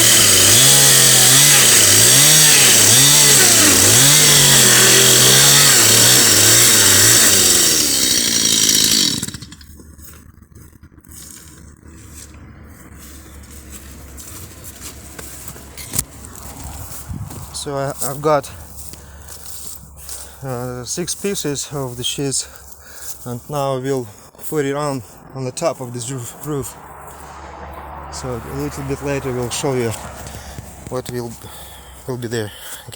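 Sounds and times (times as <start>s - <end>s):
chainsaw cutting: 0.0s - 32.9s.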